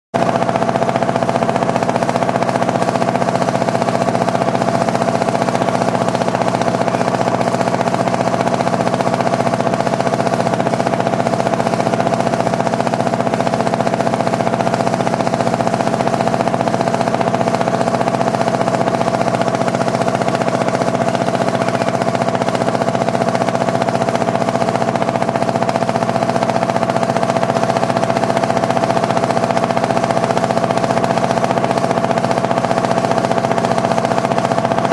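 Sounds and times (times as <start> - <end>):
motorboat engine droning: 0.2 - 34.9.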